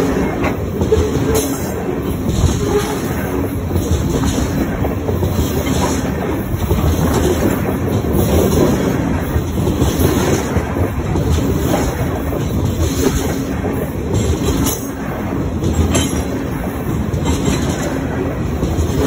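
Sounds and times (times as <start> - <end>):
train wheels rumbling on rail: 0.0 - 19.0
wheel clickety-clack: 0.0 - 19.0.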